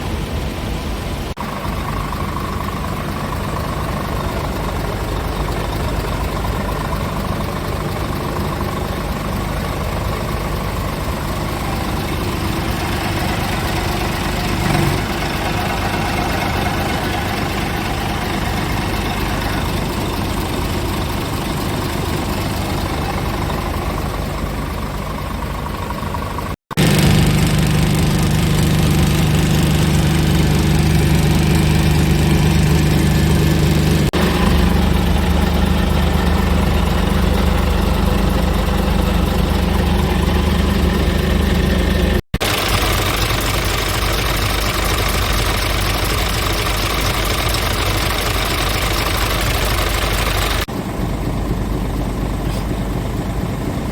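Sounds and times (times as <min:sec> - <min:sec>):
truck diesel engine idling: 0:00.0 - 0:53.9.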